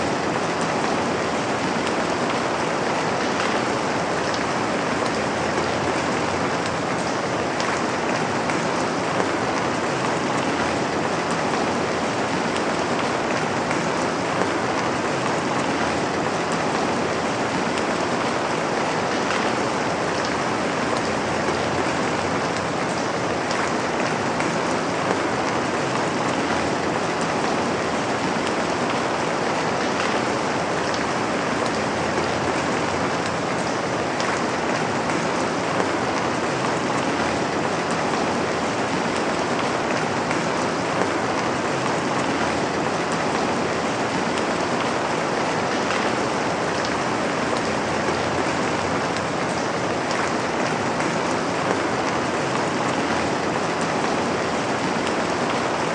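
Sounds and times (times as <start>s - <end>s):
rain falling on a surface: 0.0s - 55.9s.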